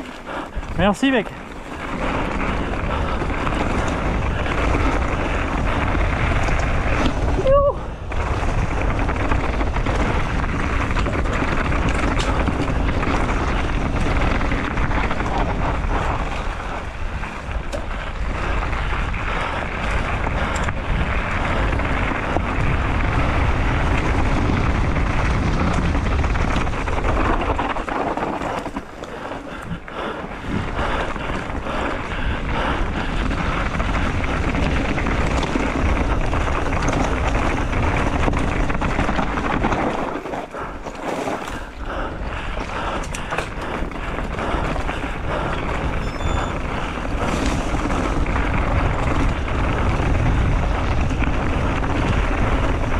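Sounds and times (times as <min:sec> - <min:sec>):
bike chain and frame rattling: 0:00.0 - 0:52.9
tyres rolling over dirt and stones: 0:00.0 - 0:52.9
wind rushing over microphone: 0:00.0 - 0:52.9.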